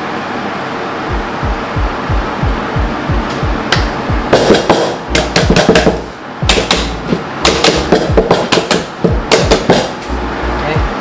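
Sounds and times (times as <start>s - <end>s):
background music with steady beat: 1.0s - 11.0s.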